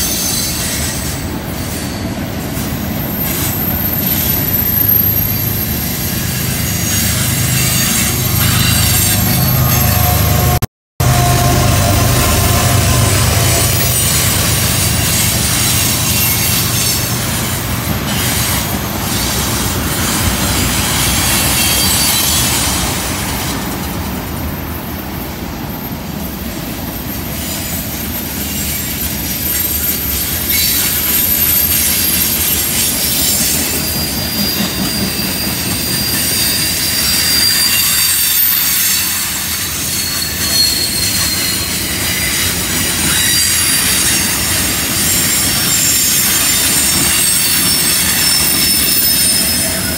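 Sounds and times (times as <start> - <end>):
high-pitched wheel squeal: 0.0 - 23.7, 24.4 - 49.9
steel wheels rumbling on rail: 0.0 - 49.9.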